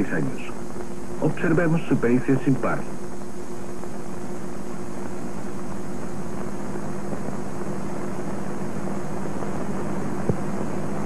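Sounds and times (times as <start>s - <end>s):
film soundtrack hum and hiss: 0.0s - 11.0s.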